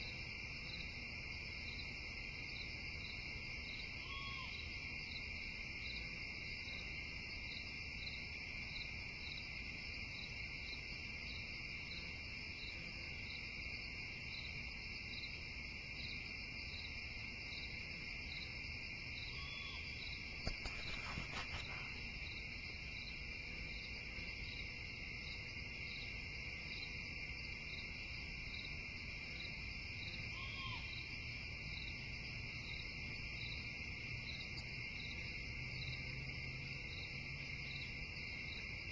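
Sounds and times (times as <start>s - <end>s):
insect trill and chirps: 0.0s - 38.9s.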